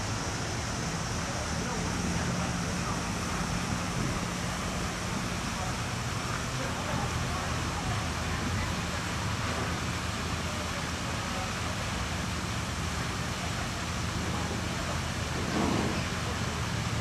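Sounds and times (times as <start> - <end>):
broad hiss: 0.0 - 17.0
vehicle engine running: 0.0 - 17.0.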